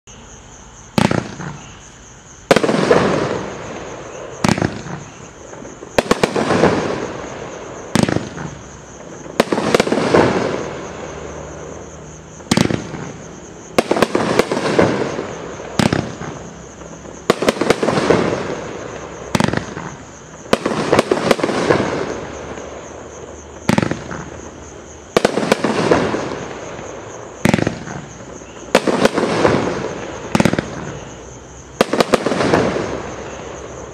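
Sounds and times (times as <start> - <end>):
firework shots firing: 1.0 - 1.7, 2.5 - 11.8, 12.4 - 22.8, 23.6 - 24.5, 25.1 - 31.2, 31.8 - 33.7.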